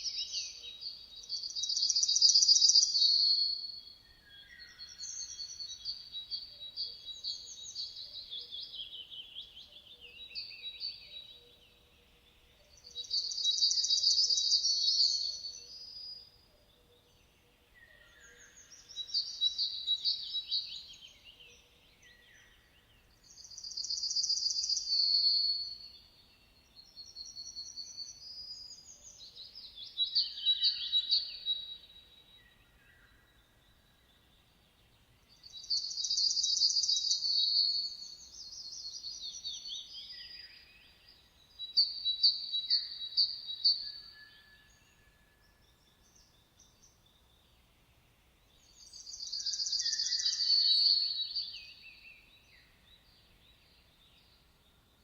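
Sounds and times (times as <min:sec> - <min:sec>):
songbird singing trills: 0:00.0 - 0:55.0.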